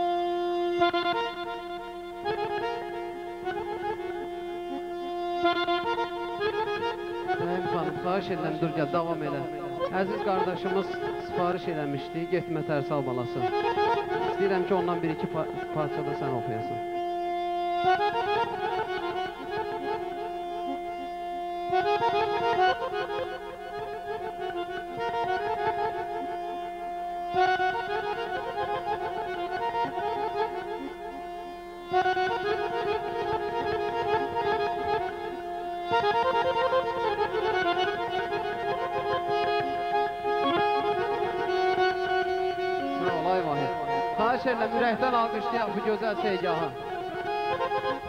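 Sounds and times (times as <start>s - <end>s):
button accordion folk melody: 0.0s - 48.0s.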